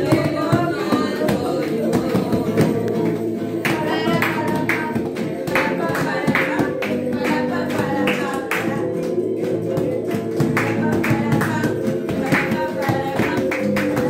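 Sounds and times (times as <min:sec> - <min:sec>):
acoustic guitar: 0:00.0 - 0:14.0
cajon drum: 0:00.0 - 0:14.0
hands clapping: 0:00.0 - 0:14.0
voices singing: 0:00.0 - 0:14.0.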